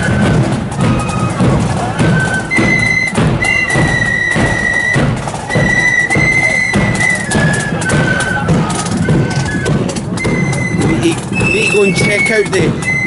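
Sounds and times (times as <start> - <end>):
drum beats: 0.0 - 13.0
flutes playing high tune: 0.0 - 13.0.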